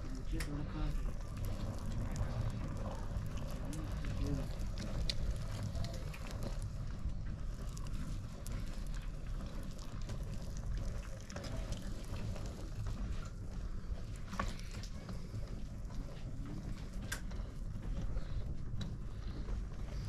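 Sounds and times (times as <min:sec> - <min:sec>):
potter's wheel rumbling: 0:00.0 - 0:20.0
wet hands on clay: 0:00.0 - 0:20.0.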